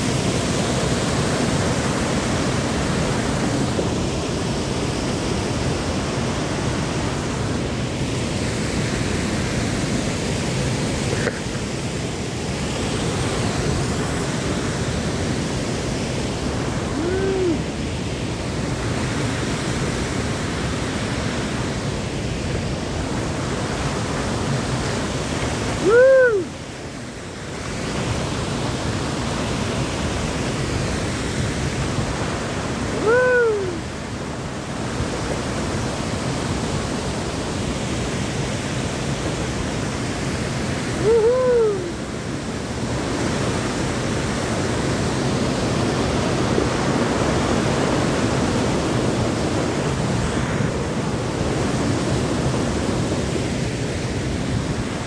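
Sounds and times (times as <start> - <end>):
river and waterfall rushing: 0.0 - 55.0.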